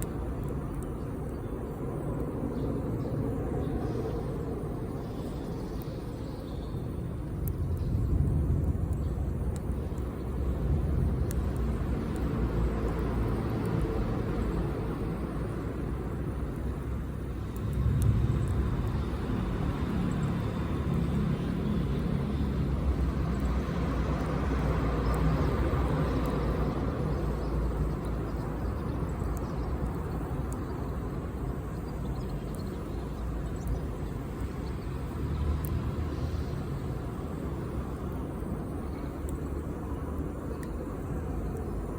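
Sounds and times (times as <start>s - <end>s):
campfire rumble and hiss: 0.0s - 41.9s.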